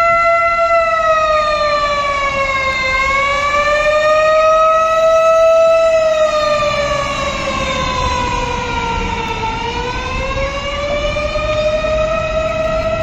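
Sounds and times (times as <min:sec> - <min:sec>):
mechanical siren wailing: 0:00.0 - 0:13.0.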